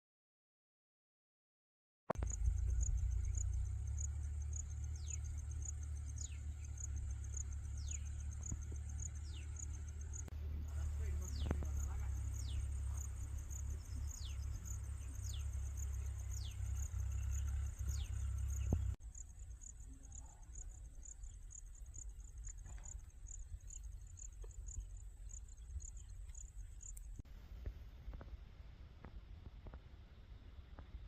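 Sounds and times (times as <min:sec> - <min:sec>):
insects chirping in a fast trill: 0:02.2 - 0:27.2
low rumble: 0:02.2 - 0:31.0.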